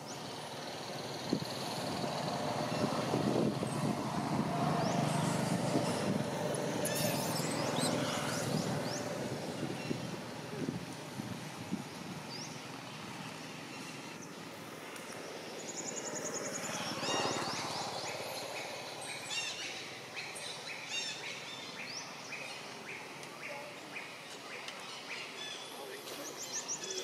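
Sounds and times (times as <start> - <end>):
small birds chirping: 0.0 - 27.0
steady background hiss: 0.0 - 27.0.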